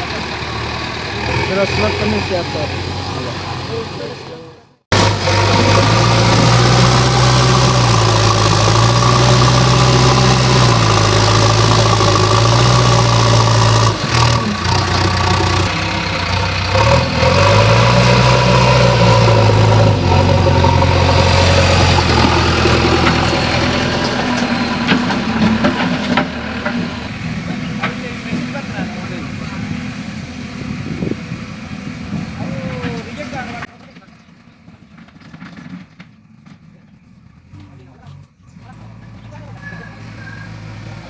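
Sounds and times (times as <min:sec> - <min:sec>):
diesel engine revving: 0:00.0 - 0:41.0.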